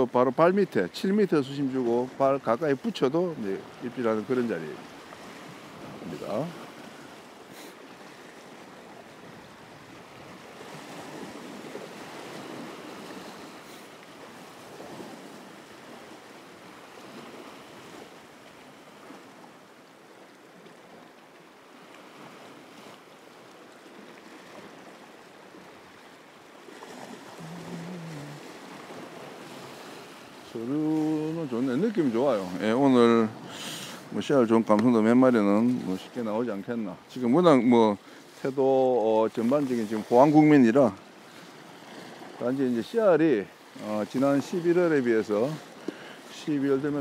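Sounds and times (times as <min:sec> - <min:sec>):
waves washing against rocks: 0:00.0 - 0:19.6, 0:23.8 - 0:47.0.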